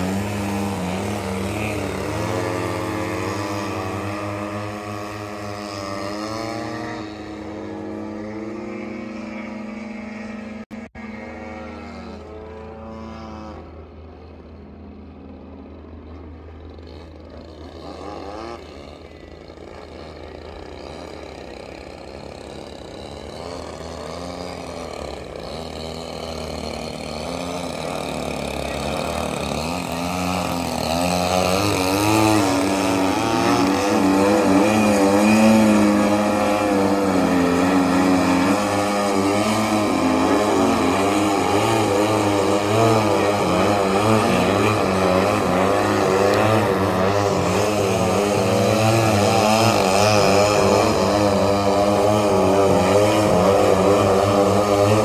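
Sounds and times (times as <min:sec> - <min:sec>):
model plane engines wavering: 0:00.0 - 0:55.0.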